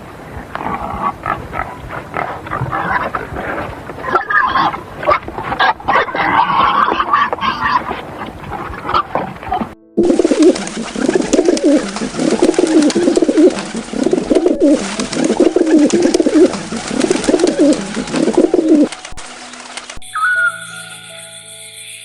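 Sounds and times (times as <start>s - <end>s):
birds warbling calls: 1.1s - 21.3s.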